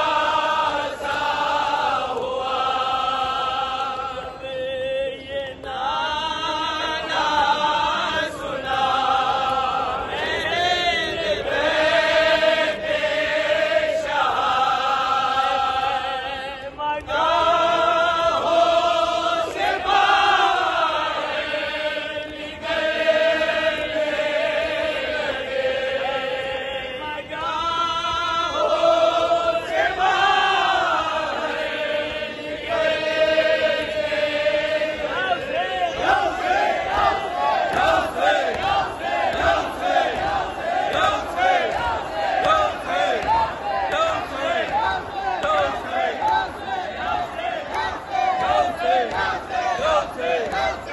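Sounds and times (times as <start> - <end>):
men chanting together: 0.0 - 50.9.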